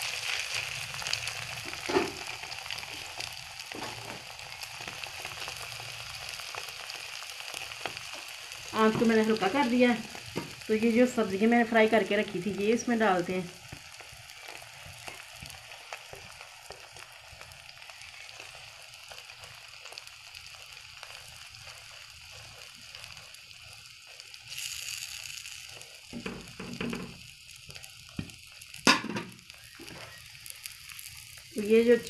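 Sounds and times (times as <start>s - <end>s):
omelette sizzling in a frying pan: 0.0s - 32.0s.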